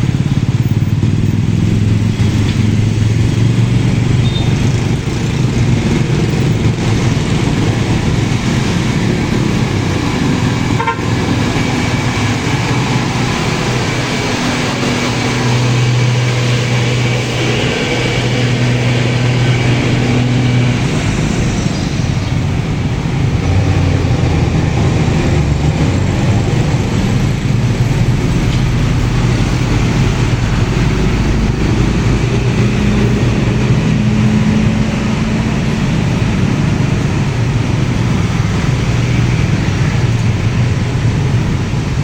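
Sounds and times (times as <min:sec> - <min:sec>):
engine hum: 0:00.0 - 0:42.0
vehicles passing: 0:00.0 - 0:42.0.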